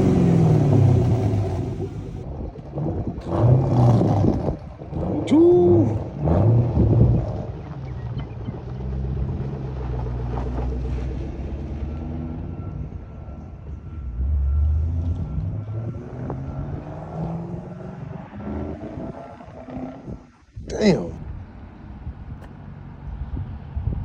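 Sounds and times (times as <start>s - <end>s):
car engine loud exhaust: 0.0s - 21.5s.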